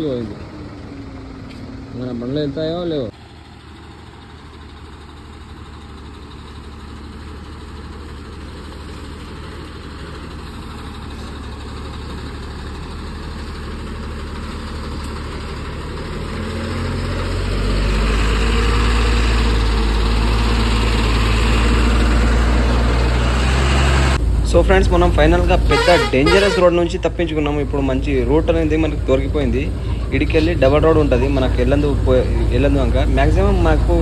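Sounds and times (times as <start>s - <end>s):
diesel truck engine running: 0.0s - 34.0s.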